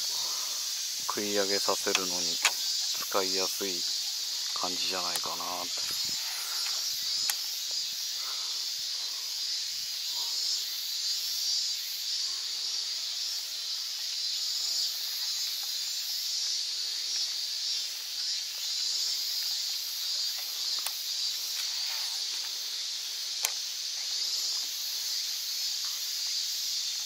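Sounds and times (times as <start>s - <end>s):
insect chorus buzzing: 0.0s - 27.0s.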